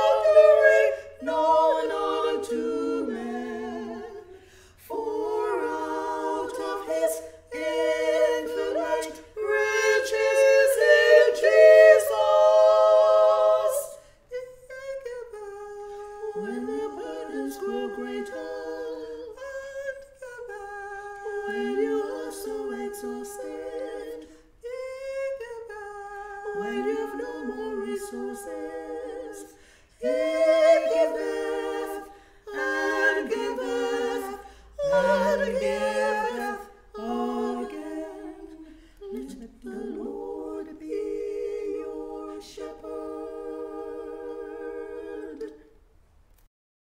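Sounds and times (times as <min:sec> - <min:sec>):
women singing a hymn a cappella: 0:00.0 - 0:46.0.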